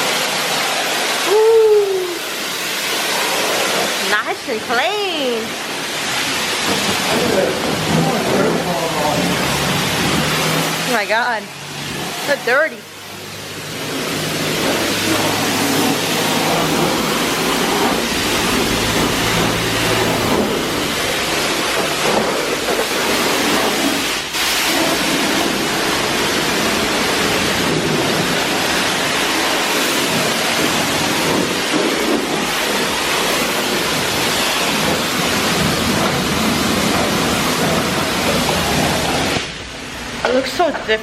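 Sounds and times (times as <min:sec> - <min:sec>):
pressure washer spraying: 0:00.0 - 0:40.8.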